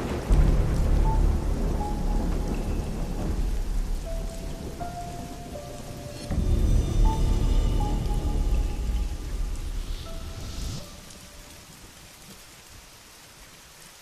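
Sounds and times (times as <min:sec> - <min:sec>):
thunder rumbling: 0:00.0 - 0:12.2
steady rain: 0:00.0 - 0:14.0.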